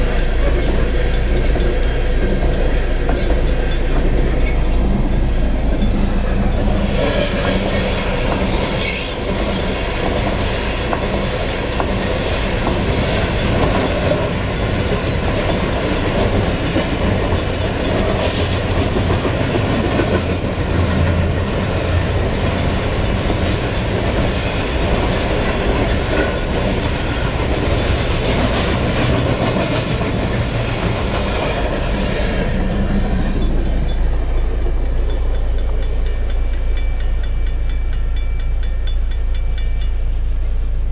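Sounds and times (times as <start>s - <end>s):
wheels clicking over rail joints: 0.0s - 40.2s
train cars rolling past: 0.0s - 40.9s.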